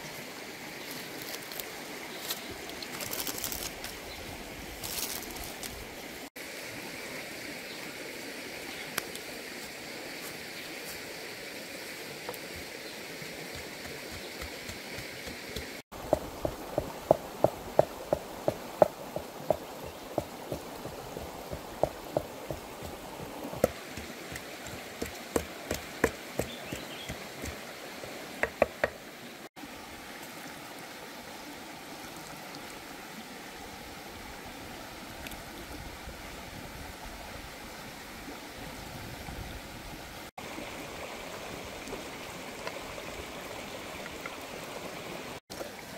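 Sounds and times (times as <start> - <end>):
steady outdoor hiss: 0.0 - 45.9.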